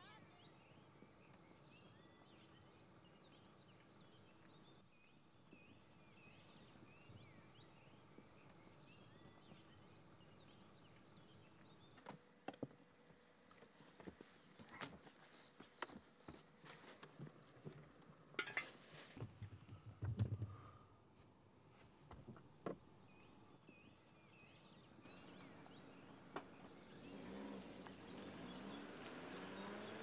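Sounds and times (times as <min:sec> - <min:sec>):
small birds chirping: 0:00.0 - 0:18.0, 0:22.9 - 0:30.0.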